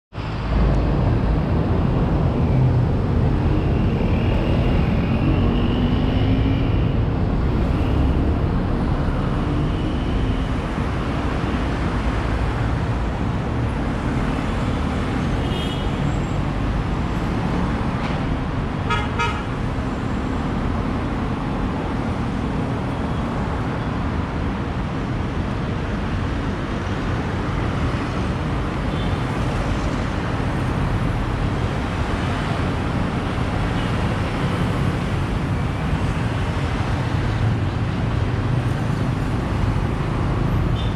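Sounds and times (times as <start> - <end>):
traffic rumble: 0.2 - 40.9.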